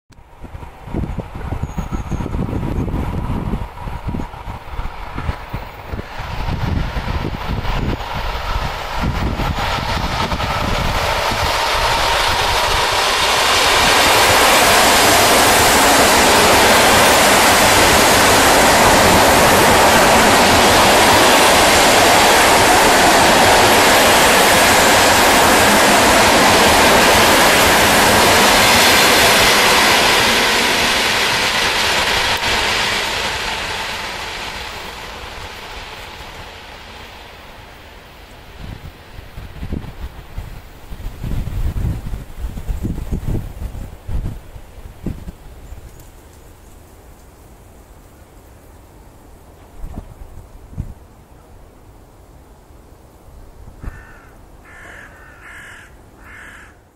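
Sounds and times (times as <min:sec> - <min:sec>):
electric train passing: 0:00.2 - 0:56.9.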